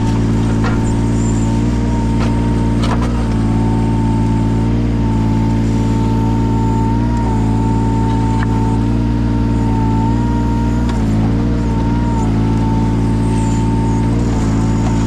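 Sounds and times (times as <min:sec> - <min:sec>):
excavator diesel engine running: 0:00.0 - 0:15.0
high whine: 0:00.0 - 0:15.0.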